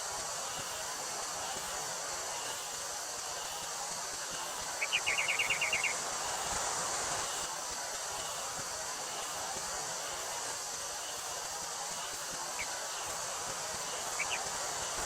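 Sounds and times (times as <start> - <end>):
cicadas droning: 0.0 - 15.0
wind-like hiss: 0.0 - 15.0.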